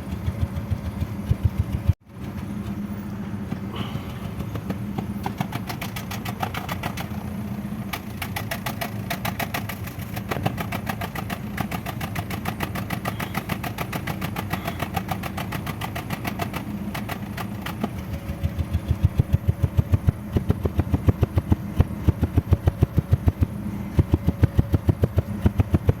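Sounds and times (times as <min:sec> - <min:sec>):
engine idling with a misfire: 0:00.0 - 0:26.0.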